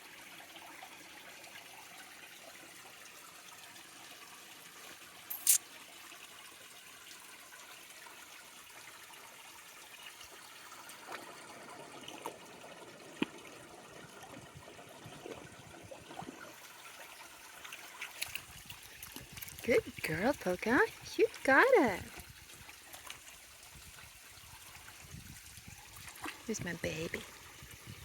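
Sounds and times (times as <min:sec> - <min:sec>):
creek trickling: 0:00.3 - 0:28.0.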